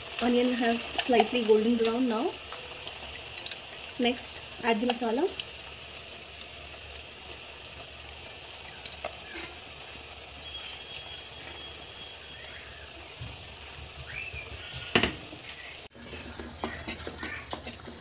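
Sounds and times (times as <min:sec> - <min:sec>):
onions sizzling in a pan: 0:00.0 - 0:18.0.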